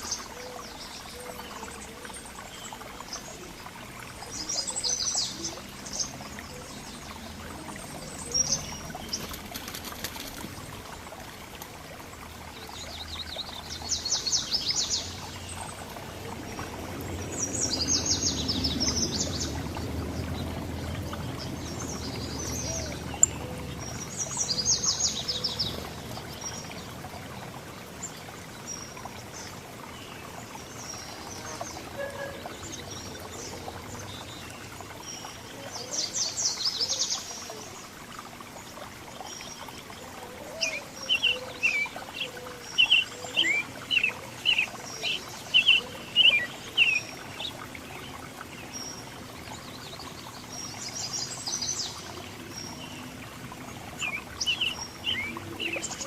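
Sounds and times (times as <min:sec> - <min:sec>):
songbirds chittering trills: 0:00.0 - 0:56.0.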